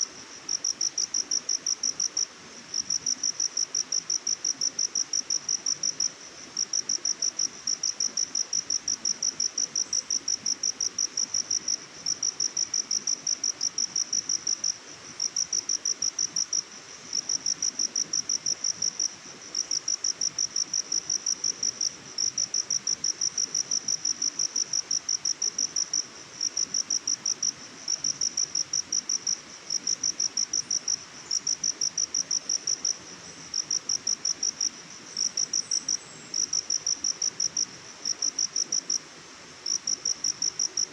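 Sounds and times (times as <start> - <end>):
cricket chirping: 0.0 - 39.0, 39.6 - 40.9
faint background hiss: 0.0 - 40.9.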